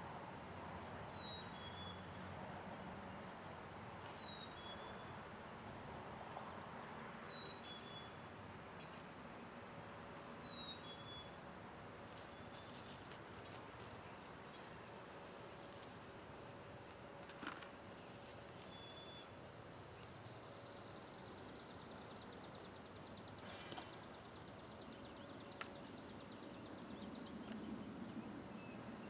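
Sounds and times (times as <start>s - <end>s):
faint outdoor background noise: 0.0s - 29.0s.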